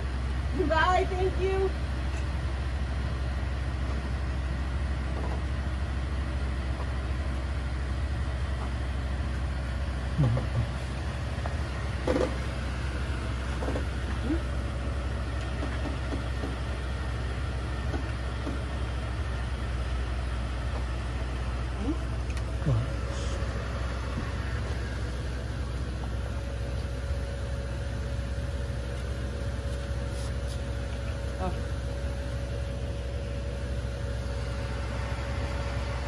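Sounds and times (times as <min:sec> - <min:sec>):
bus engine idling: 0:00.0 - 0:36.0.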